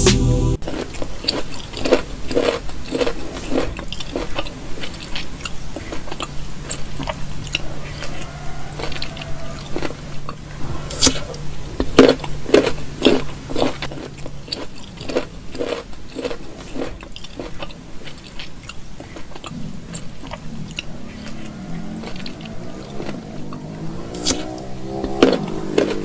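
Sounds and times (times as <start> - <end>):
person chewing crunchy fruit: 0.6 - 7.2, 8.8 - 26.0.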